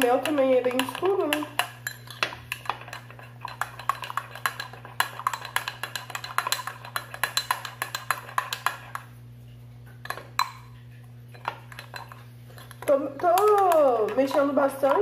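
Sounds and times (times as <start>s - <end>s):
spoon clinking and scraping container: 0.0s - 9.1s, 10.0s - 15.0s.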